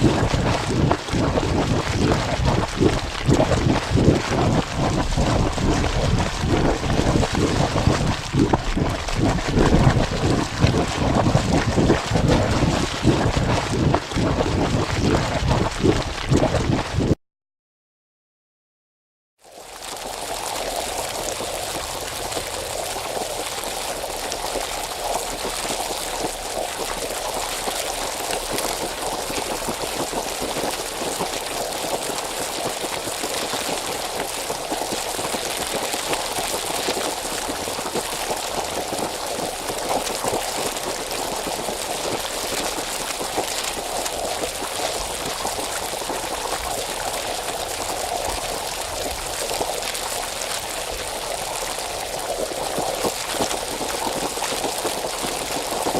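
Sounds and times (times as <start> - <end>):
hot spring water bubbling: 0.0 - 17.2, 19.4 - 55.9.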